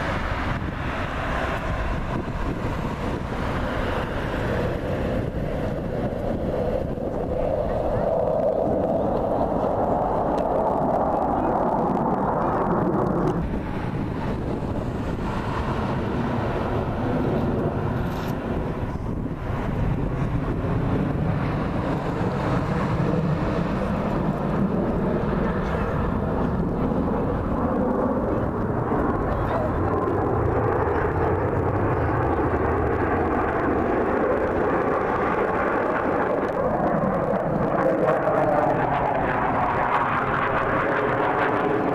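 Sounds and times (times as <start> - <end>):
aircraft engine rushing: 0.0 - 41.9
wind on microphone: 0.0 - 41.9.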